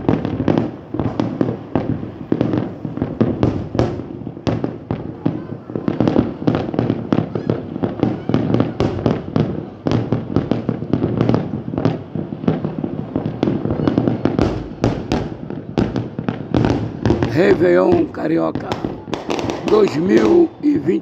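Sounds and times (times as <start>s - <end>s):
deep firework boom: 0.0s - 21.0s
fireworks bangs and bursts: 0.0s - 21.0s.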